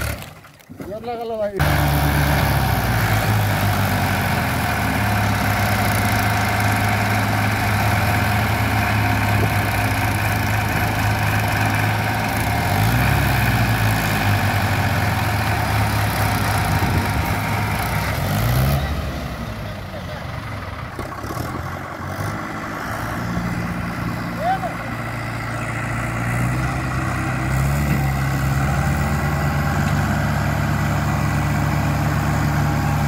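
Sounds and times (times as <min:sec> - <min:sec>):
diesel tractor engines under load: 0:00.0 - 0:33.0.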